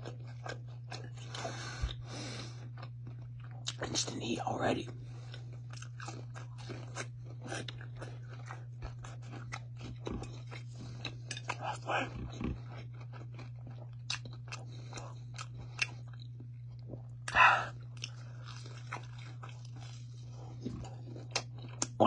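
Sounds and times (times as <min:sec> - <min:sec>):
person chewing crunchy chicken: 0:00.0 - 0:22.0
steady low hum: 0:00.0 - 0:22.0.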